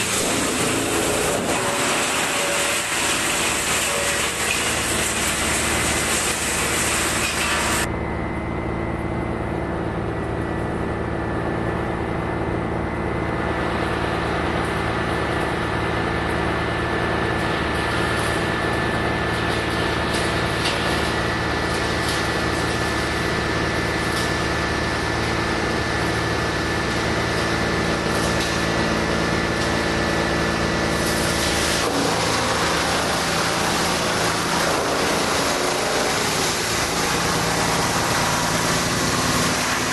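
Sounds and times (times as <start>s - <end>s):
wood chipper droning: 0.0s - 39.9s.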